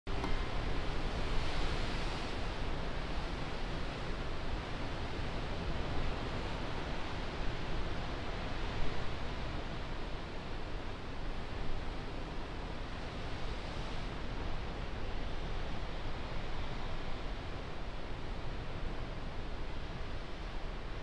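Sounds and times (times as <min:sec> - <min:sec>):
distant sea surf: 0:00.1 - 0:21.0
wind rumble on microphone: 0:00.1 - 0:21.0.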